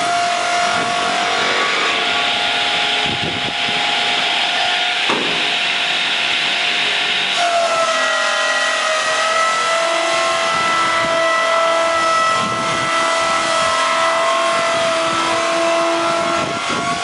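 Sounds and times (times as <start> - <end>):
circular saw blade whining: 0.0 - 17.0.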